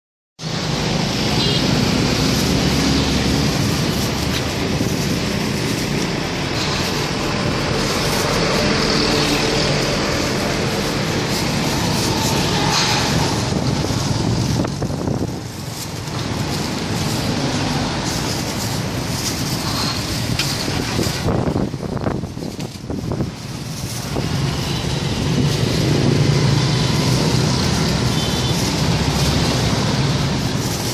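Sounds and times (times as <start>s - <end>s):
street traffic engine hum: 0.4s - 30.9s.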